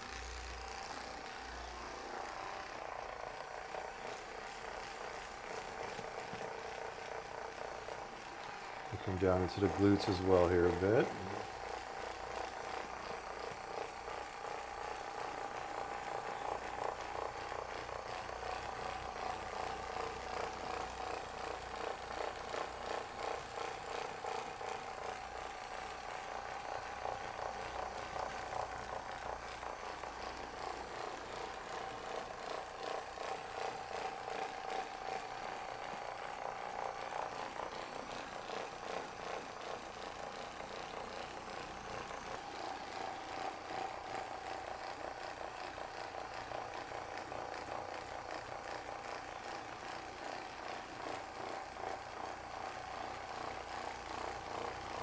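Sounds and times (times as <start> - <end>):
massage gun humming and pulsing: 0.0 - 55.0.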